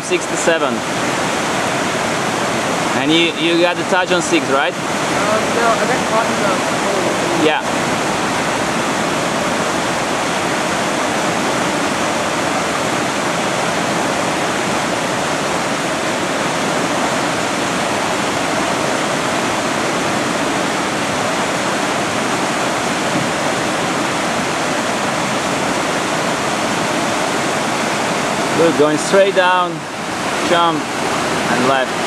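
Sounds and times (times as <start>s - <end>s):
river rapids rushing: 0.0s - 32.0s.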